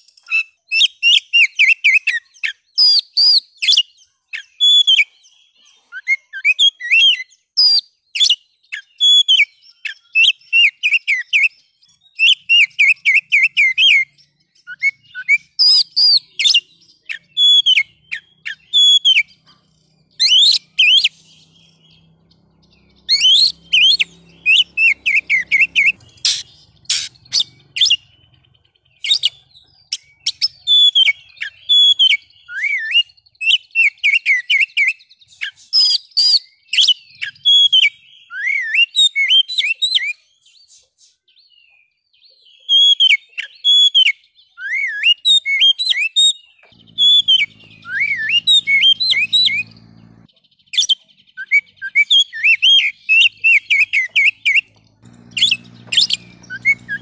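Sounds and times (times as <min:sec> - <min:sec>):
bird singing sharp whistles: 0:05.9 - 0:19.3, 0:20.0 - 0:22.2, 0:22.8 - 0:28.4, 0:29.0 - 0:40.8, 0:42.6 - 0:57.0.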